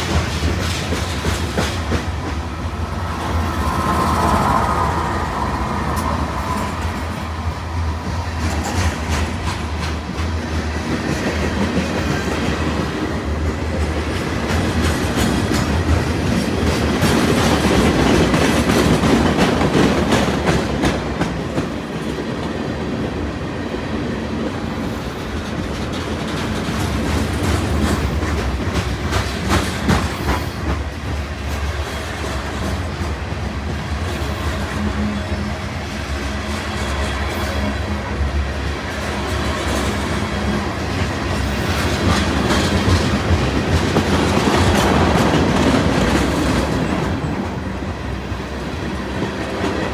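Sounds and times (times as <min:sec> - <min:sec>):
freight train wheels clicking: 0:00.0 - 0:49.9
train rumble: 0:00.0 - 0:49.9.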